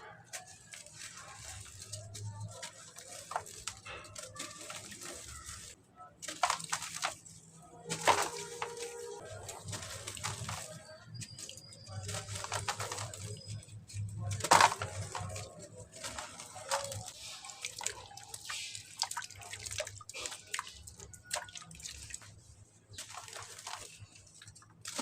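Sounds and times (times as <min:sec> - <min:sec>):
cement crumbling into water: 0:00.2 - 0:25.0
splash: 0:00.4 - 0:25.0.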